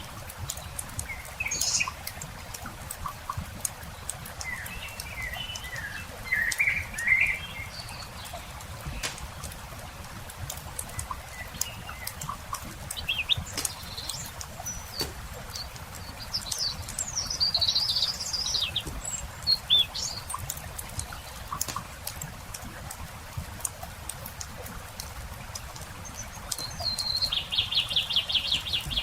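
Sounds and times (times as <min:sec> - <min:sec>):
campfire crackling and popping: 0:00.0 - 0:28.0
songbirds chirping: 0:00.0 - 0:29.0.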